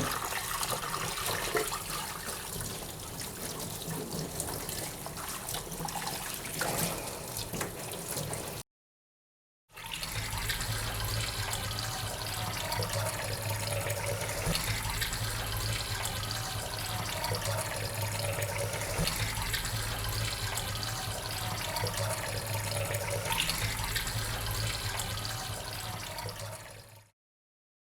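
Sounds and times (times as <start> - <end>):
tap water running into sink: 0.0 - 8.6, 9.8 - 27.0.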